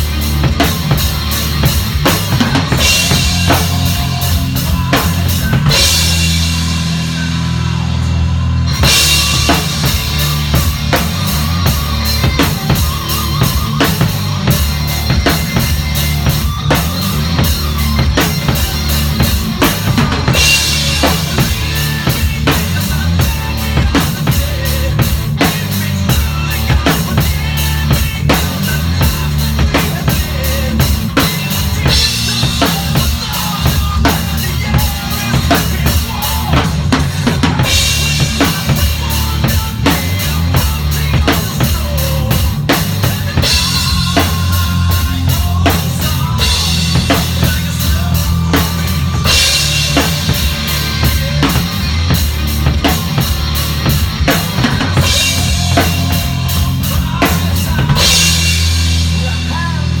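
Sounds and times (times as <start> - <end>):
heavy metal drum kit: 0.0 - 60.0
sustained bass line: 0.0 - 60.0.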